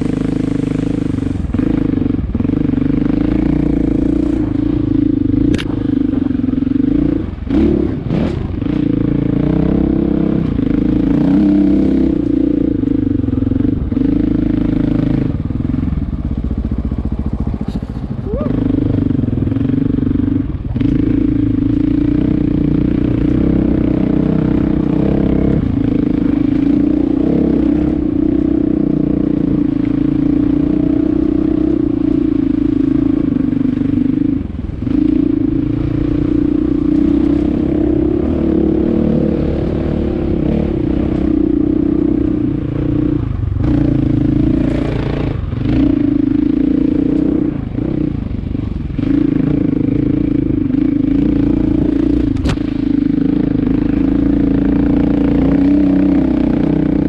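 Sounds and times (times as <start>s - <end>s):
engine running at speed: 0.0s - 57.0s.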